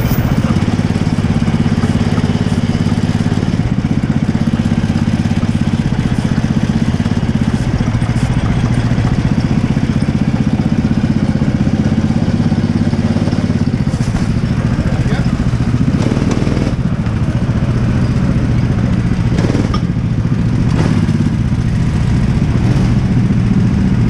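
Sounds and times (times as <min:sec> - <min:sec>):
go-kart engine running: 0:00.0 - 0:24.0.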